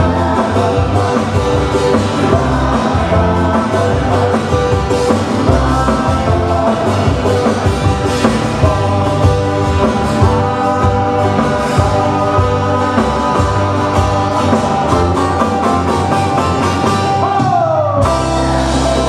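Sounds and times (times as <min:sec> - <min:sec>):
live band playing a song: 0:00.0 - 0:19.0.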